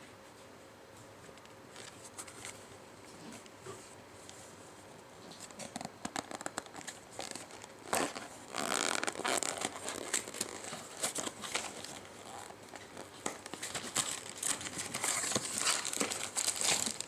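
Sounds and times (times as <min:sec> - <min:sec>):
crinkling and rustling: 0:01.3 - 0:17.0.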